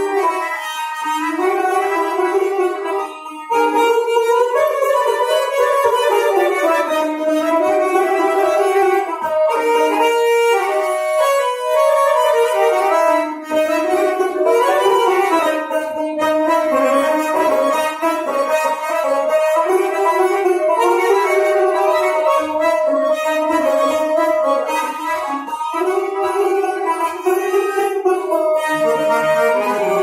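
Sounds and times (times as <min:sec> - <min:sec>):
button accordion melody: 0:00.0 - 0:30.0
plucked lute: 0:00.0 - 0:30.0.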